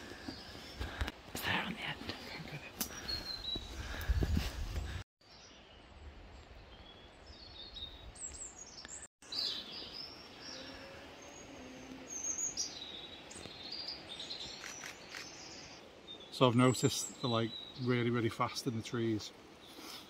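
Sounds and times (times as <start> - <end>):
faint outdoor background noise: 0.0 - 20.0
songbirds chirping: 0.0 - 20.0.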